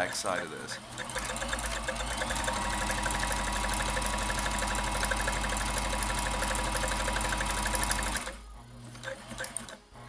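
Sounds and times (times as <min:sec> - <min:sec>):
sewing machine running: 0:00.0 - 0:09.8.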